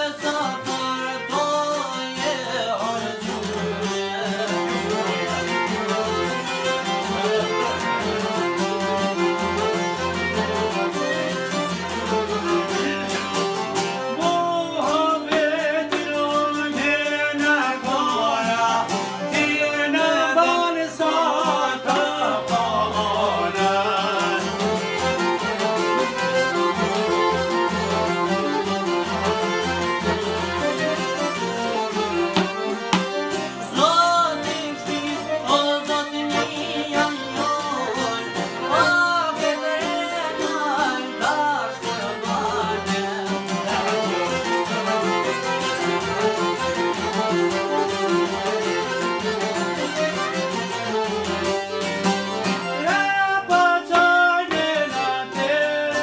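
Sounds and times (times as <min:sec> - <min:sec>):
man singing: 0:00.0 - 0:51.7, 0:52.5 - 0:56.0
accordion: 0:00.0 - 0:56.0
plucked lutes: 0:00.0 - 0:56.0
violin: 0:00.0 - 0:56.0.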